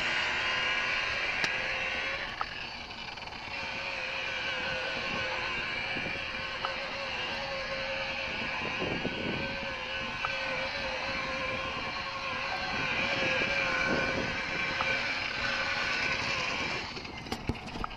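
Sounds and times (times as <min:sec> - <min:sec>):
motorboat engine running: 0:00.0 - 0:17.9.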